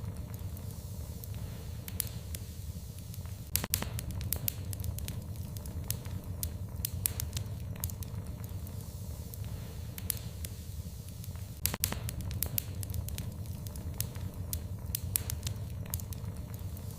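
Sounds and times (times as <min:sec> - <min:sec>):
fire crackling and popping: 0:00.0 - 0:16.9
low fire rumble: 0:00.0 - 0:16.9.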